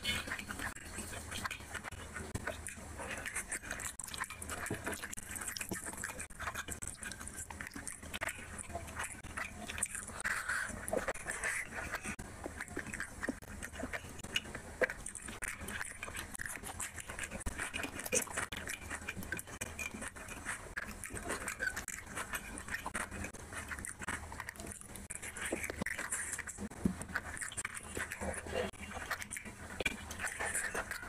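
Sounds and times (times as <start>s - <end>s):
wet chewing and lip smacking: 0.0s - 31.0s.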